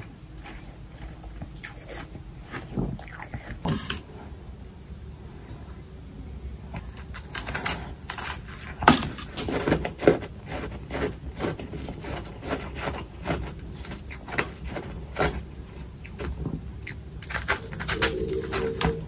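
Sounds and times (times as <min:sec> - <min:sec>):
crunching and chewing frost: 0:00.0 - 0:19.0.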